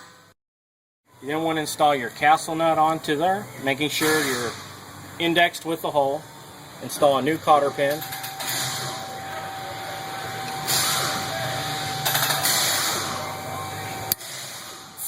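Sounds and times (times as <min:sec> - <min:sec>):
machine hum with whine: 0:01.1 - 0:15.0.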